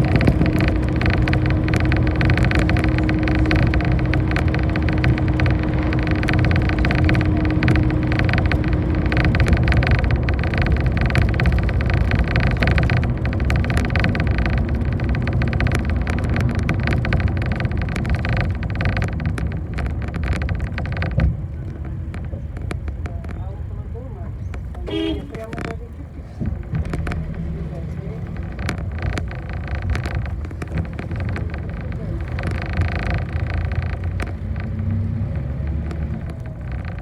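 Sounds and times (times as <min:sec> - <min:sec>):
bus engine and road noise: 0:00.0 - 0:37.0
constant whine: 0:00.0 - 0:37.0.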